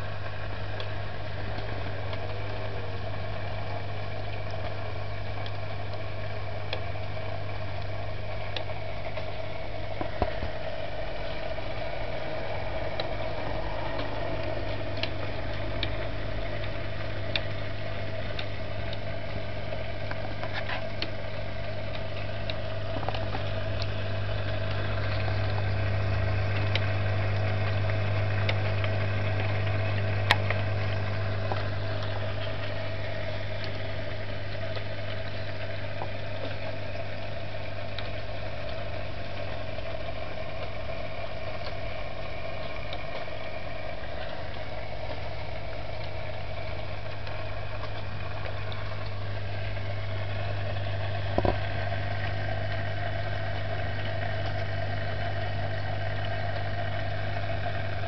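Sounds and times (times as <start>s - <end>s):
aquarium pump humming: 0.0s - 58.0s.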